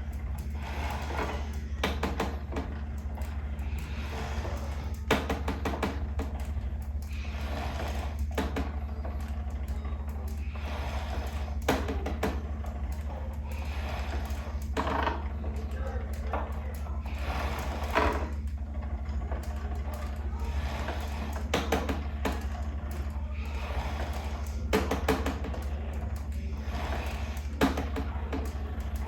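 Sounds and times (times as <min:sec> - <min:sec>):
rowing machine rattling clicks: 0:00.0 - 0:29.0
steady low hum: 0:00.0 - 0:29.0.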